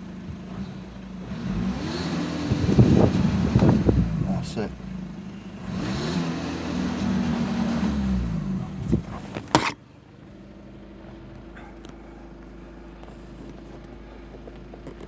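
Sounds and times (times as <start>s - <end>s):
diesel engine revving and idling: 0.0s - 15.0s.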